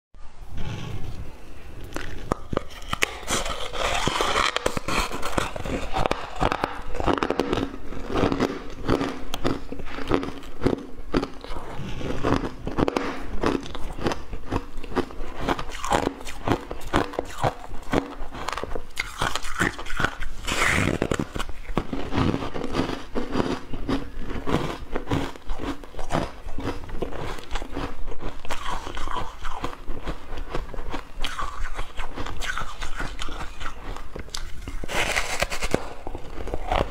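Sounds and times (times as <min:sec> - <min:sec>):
ice crunching between teeth: 0:01.9 - 0:36.9.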